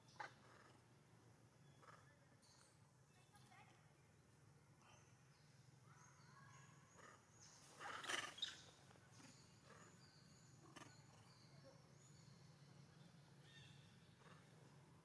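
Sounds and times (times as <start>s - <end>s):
faint forest background: 0.0s - 15.0s.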